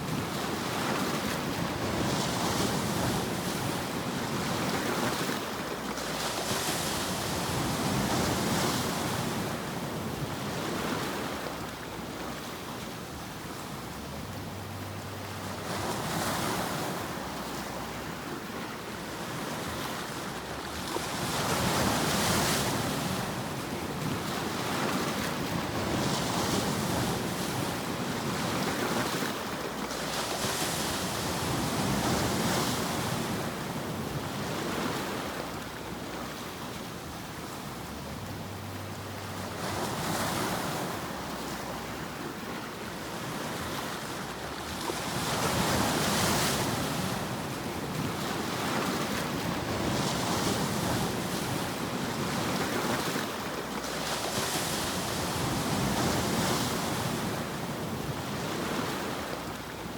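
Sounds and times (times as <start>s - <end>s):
continuous rushing white noise: 2.9s - 54.3s.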